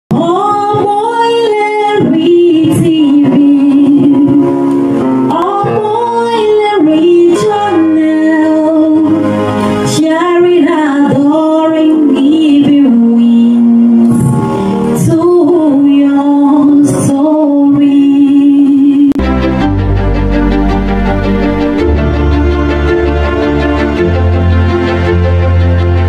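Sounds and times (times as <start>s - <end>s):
instrumental backing: 0.1s - 26.0s.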